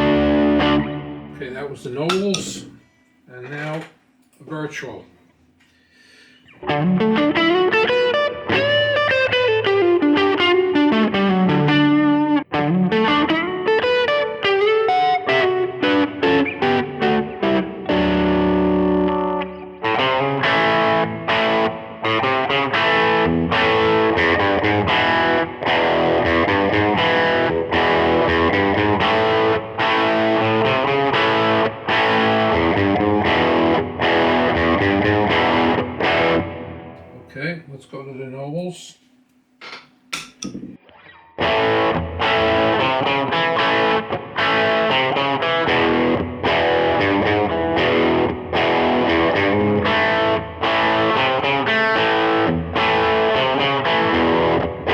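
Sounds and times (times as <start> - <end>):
overdriven electric guitar riffs: 0.0 - 1.4, 6.2 - 37.0, 39.6 - 54.9.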